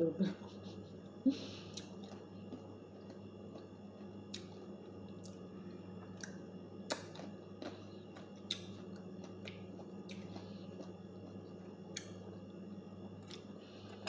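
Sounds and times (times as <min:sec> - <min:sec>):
person chewing: 0:01.4 - 0:12.4, 0:13.1 - 0:14.0.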